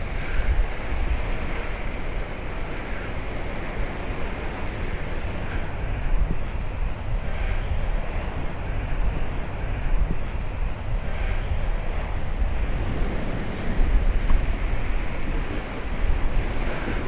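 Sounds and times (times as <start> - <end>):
steady outdoor rush: 0.0 - 17.0
wind buffeting microphone: 0.0 - 17.0.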